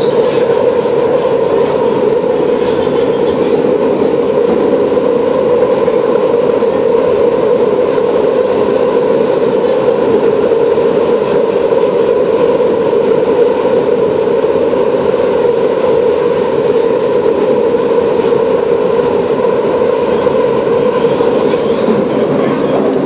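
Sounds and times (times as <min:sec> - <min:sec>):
subway train running in tunnel: 0:00.0 - 0:23.0.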